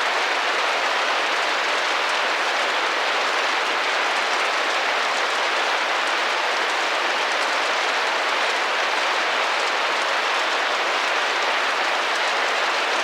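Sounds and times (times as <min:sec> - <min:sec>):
rain pattering on window: 0:00.0 - 0:13.0.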